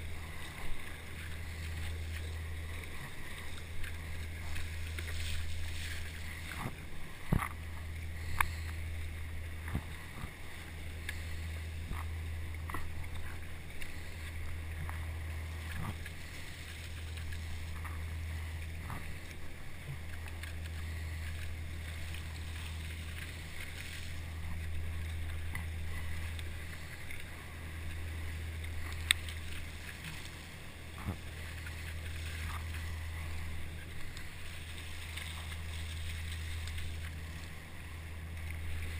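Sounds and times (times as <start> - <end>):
churning water rushing: 0.0 - 38.9
steady low rumble: 0.0 - 38.9.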